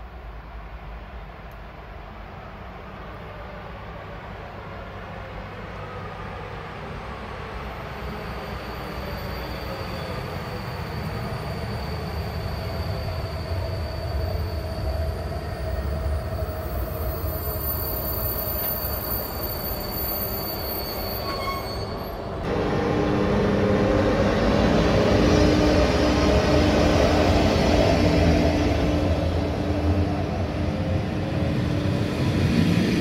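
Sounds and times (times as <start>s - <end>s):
train rumbling: 0.0s - 33.0s
wheels squealing on rails: 5.0s - 33.0s.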